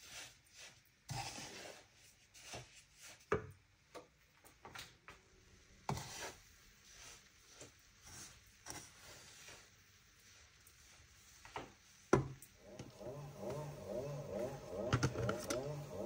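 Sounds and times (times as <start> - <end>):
wooden spatula scraping pan: 0.0 - 3.3, 5.8 - 16.0.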